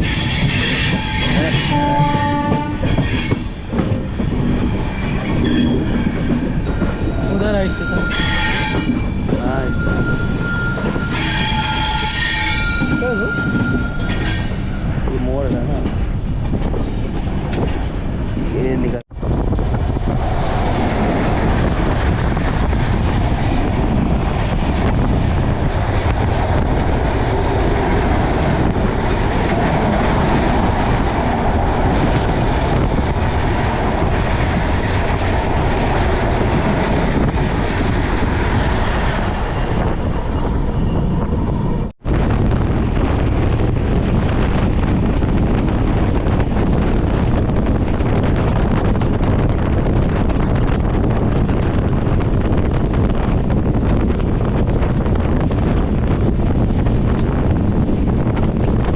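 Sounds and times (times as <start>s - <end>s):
passenger train running at speed: 0.0s - 58.9s
wind buffeting microphone: 0.0s - 58.9s.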